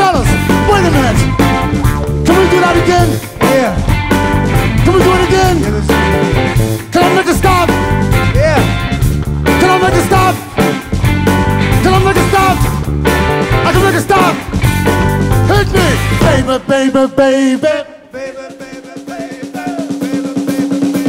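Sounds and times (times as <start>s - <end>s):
electric guitar lead with bending notes: 0.0s - 17.4s
bass line: 0.0s - 17.6s
drums: 0.0s - 21.0s.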